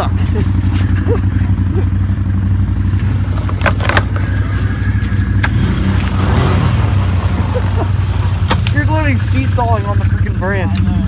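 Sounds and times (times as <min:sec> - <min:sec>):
quad engine running: 0:00.0 - 0:11.0.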